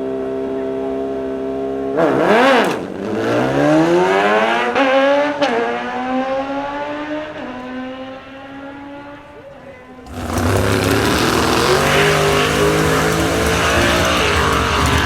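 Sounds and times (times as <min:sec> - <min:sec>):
race car engine launching and shifting: 0:02.0 - 0:08.1, 0:08.8 - 0:15.0.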